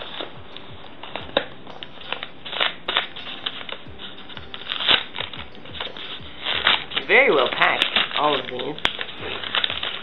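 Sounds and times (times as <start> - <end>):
hands rustling shredded paper: 0.0 - 10.0
paper package crinkling: 0.0 - 10.0.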